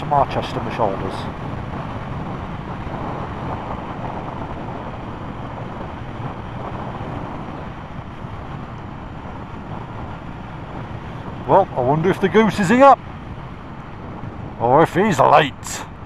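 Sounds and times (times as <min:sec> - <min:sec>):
motorcycle engine and road noise: 0:00.0 - 0:16.0
wind rushing over microphone: 0:00.0 - 0:16.0.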